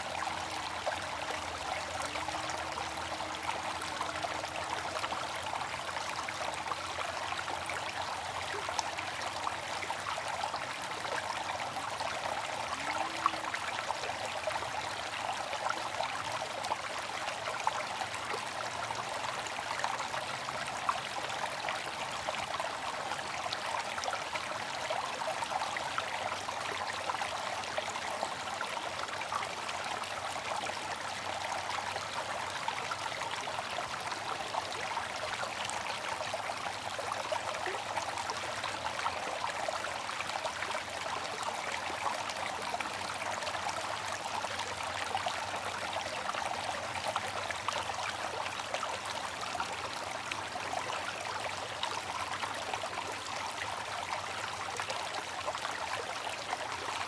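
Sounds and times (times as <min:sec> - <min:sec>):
fountain water trickling: 0:00.0 - 0:57.0.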